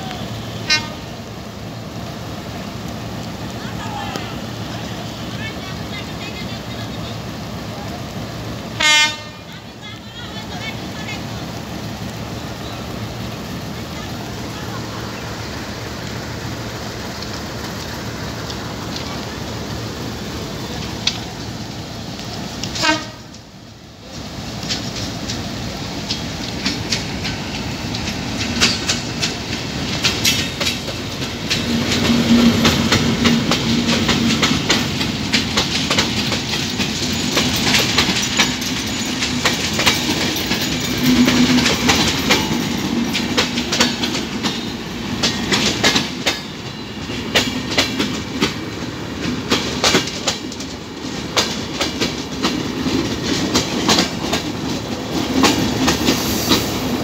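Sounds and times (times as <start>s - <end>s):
diesel locomotive drone: 0.0s - 57.0s
train wheels rumbling on rail: 0.0s - 57.0s
wheels clicking over rail joints: 9.6s - 57.0s.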